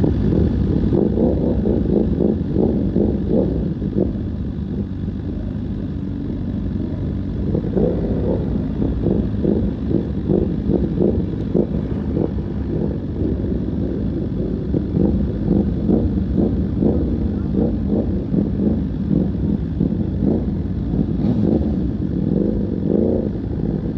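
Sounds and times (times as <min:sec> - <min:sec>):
motorcycle running at speed: 0:00.0 - 0:23.9
wind rumble on microphone: 0:00.0 - 0:23.9.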